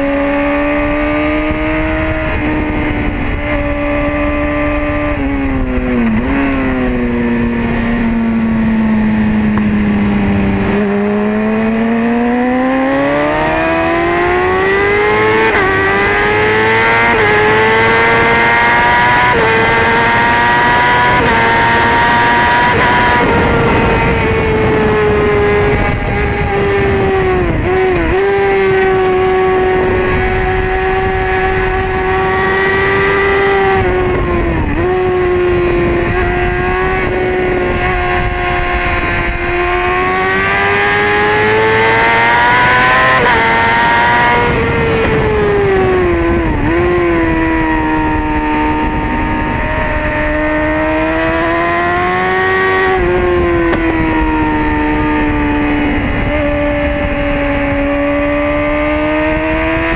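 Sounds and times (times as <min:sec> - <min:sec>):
motorcycle engine at high revs: 0:00.0 - 0:59.9
wind rush: 0:00.0 - 0:59.9.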